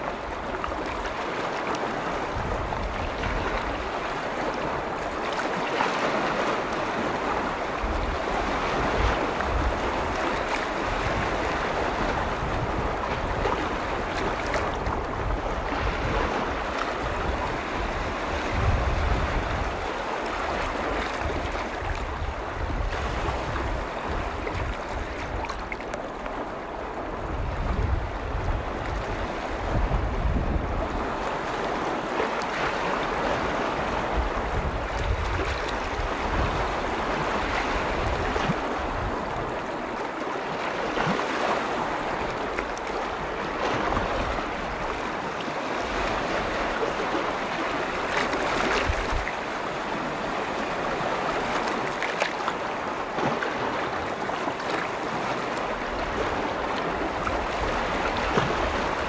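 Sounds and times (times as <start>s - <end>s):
waves lapping on shore: 0.0s - 59.0s
wind rumble on microphone: 0.0s - 59.0s.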